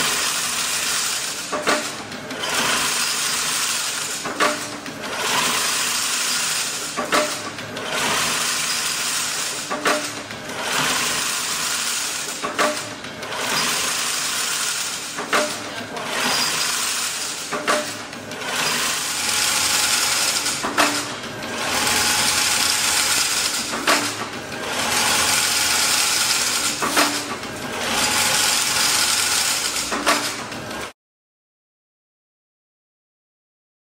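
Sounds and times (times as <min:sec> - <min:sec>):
machine whirring hiss: 0:00.0 - 0:30.8
machine clanking: 0:00.0 - 0:30.9.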